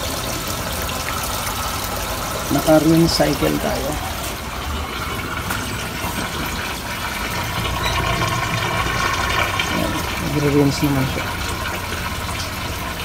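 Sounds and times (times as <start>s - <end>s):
water rushing into washing machine: 0.0s - 13.0s.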